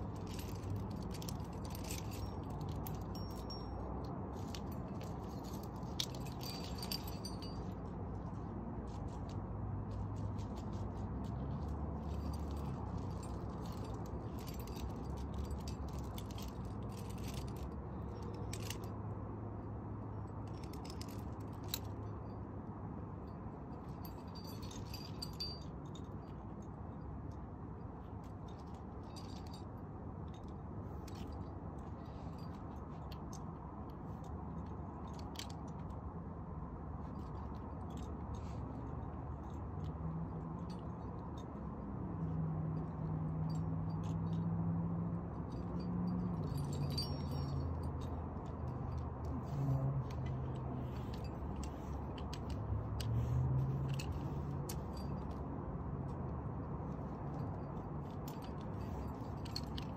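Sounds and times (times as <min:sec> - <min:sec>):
climbing hardware clinking: 0:00.0 - 0:19.1, 0:20.2 - 0:22.5, 0:23.2 - 0:27.4, 0:28.0 - 0:36.1, 0:45.2 - 0:59.9
steady background noise: 0:00.0 - 0:59.9.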